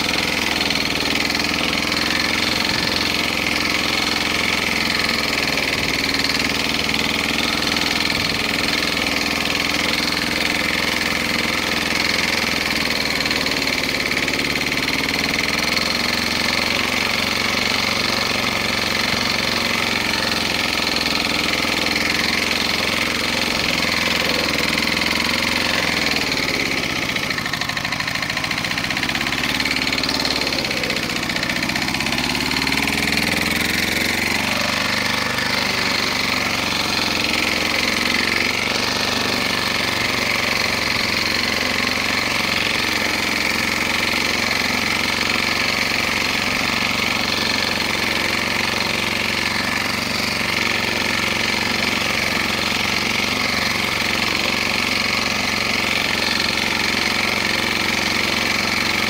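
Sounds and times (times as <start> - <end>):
lawnmower engine running: 0.0 - 59.0.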